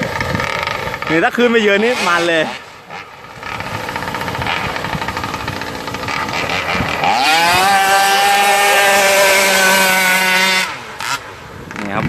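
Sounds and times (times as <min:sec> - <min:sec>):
small engine revving whine: 0:00.0 - 0:12.0.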